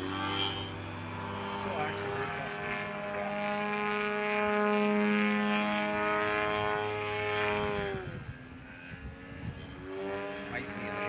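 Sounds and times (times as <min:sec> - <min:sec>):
model plane engine droning: 0:00.0 - 0:11.0.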